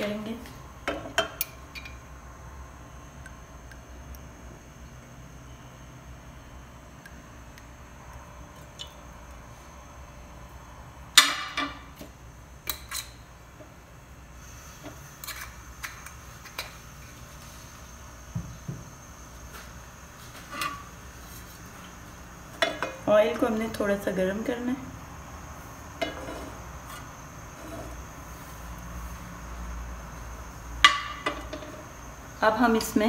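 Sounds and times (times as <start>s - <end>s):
low steady background hum: 0.0s - 33.0s.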